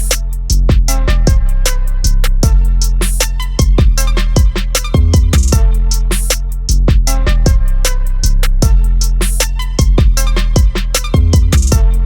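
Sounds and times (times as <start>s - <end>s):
drums: 0.0s - 1.6s, 2.3s - 7.7s, 8.4s - 12.0s
heavy bass line: 0.0s - 12.0s.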